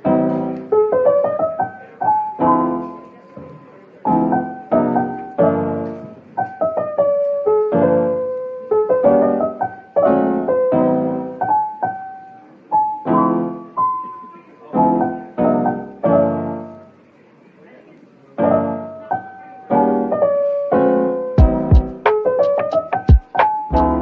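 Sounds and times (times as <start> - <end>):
slow piano chords and melody: 0.0 - 17.1, 18.3 - 24.0.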